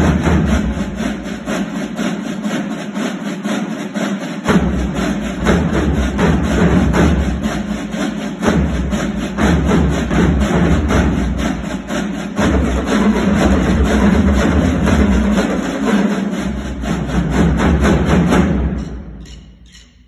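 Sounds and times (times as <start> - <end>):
low drum part: 0.0 - 3.0, 4.4 - 18.9
marching snare drums: 0.0 - 19.8.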